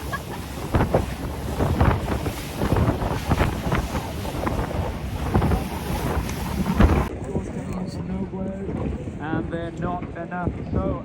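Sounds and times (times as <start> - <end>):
waves slapping against hull: 0.0 - 11.0
wind buffeting microphone: 0.0 - 11.0.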